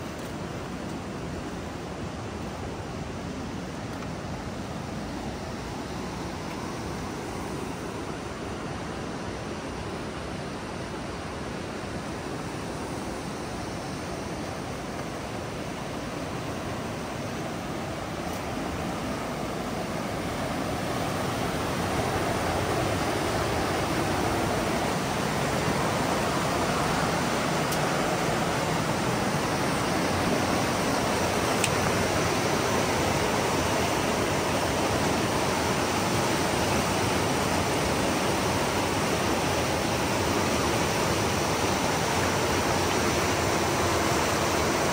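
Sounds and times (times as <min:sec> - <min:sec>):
water rushing over rapids: 0:00.0 - 0:44.9.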